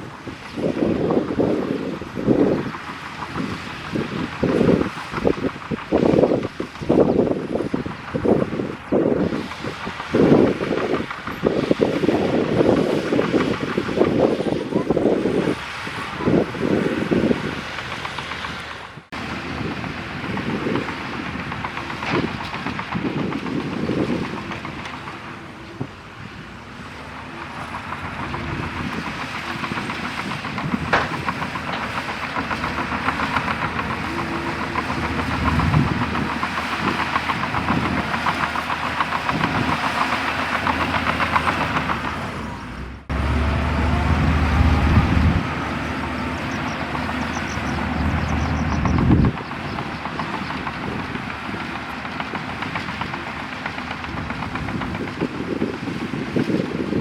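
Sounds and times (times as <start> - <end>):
diesel engine under load: 0.0 - 57.0
steel tracks clattering: 0.0 - 57.0.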